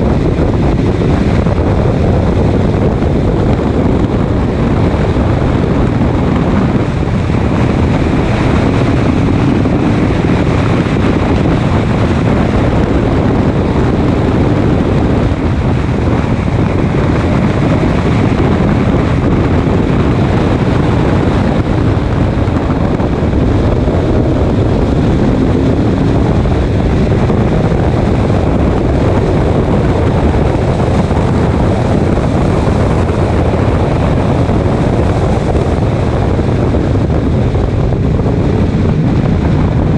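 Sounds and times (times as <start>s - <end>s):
race car engine: 0.0s - 39.9s
wind noise on microphone: 0.0s - 39.9s.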